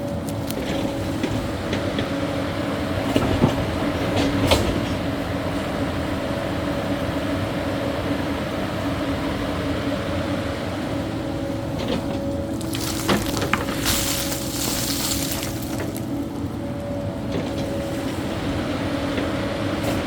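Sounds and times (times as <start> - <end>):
excavator diesel engine and hydraulics: 0.0 - 20.0.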